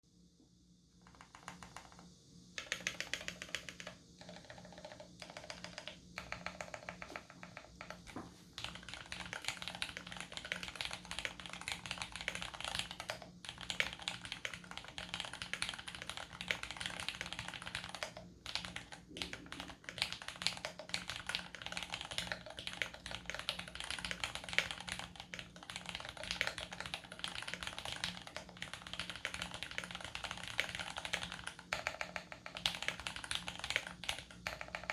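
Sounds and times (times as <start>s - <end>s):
mechanical keyboard typing: 1.1s - 34.9s.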